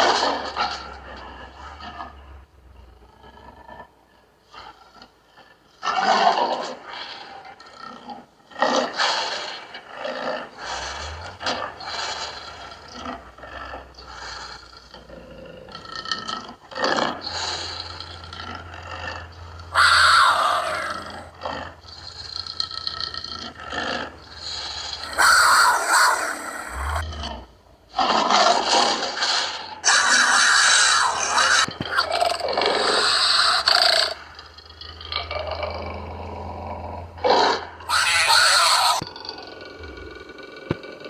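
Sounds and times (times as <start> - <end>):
big cat growls and roars: 0.0 - 41.0.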